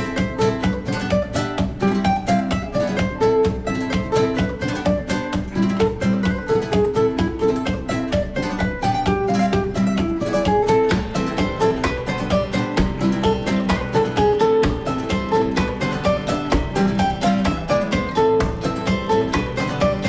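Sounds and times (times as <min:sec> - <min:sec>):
plucked guitar: 0:00.0 - 0:20.0.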